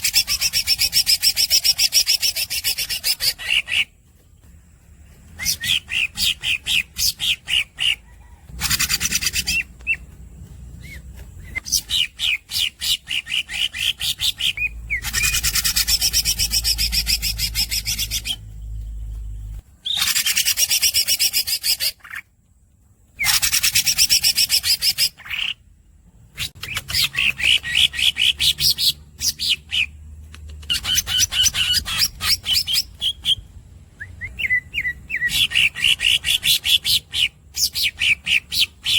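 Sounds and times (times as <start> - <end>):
bird chirping and trilling: 0.0 - 4.5, 5.1 - 22.2, 23.2 - 38.9.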